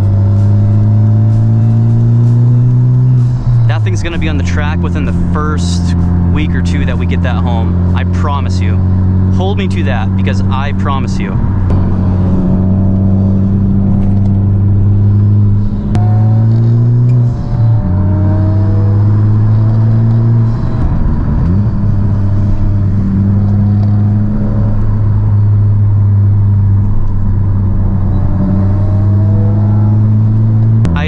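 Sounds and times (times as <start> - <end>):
car engine pulling steadily: 0.0 - 31.0.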